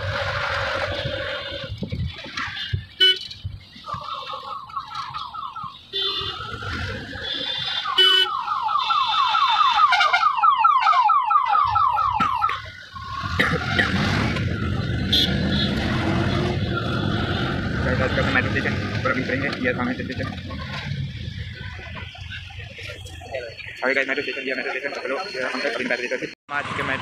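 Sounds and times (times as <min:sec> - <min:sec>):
traffic noise: 0:00.0 - 0:27.0.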